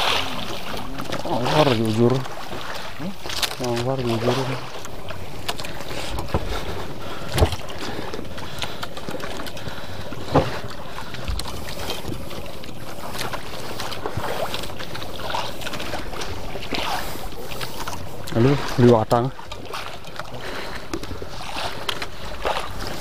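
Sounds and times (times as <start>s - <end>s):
sea noise: 0.0s - 23.0s
wind: 0.0s - 23.0s.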